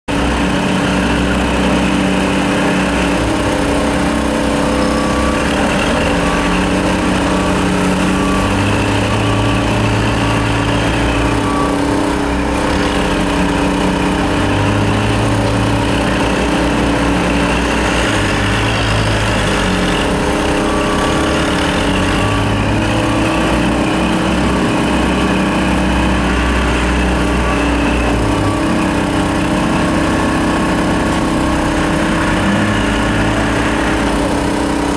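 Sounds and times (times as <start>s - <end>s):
deeper engine drone: 0.1s - 34.9s
machinery engines humming: 0.1s - 34.9s.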